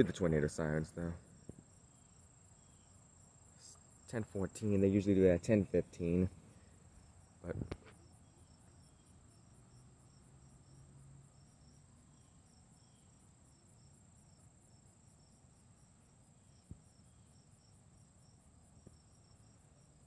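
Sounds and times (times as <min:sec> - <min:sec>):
insect trilling: 0:00.0 - 0:18.4.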